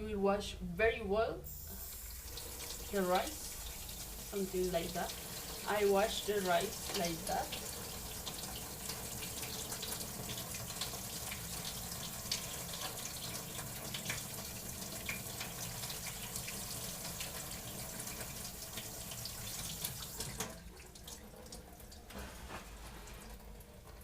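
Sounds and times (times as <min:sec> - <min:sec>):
tap water running into pot: 0:01.5 - 0:24.0.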